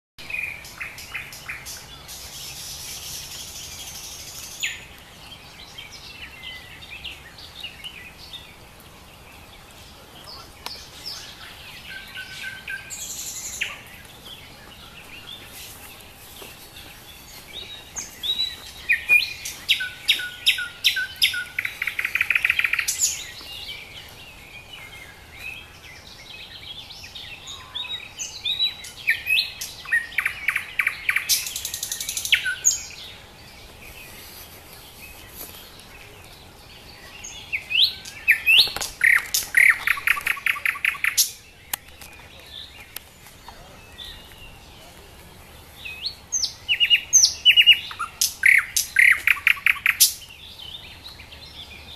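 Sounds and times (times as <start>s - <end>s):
small songbird singing trills: 0.2s - 51.9s.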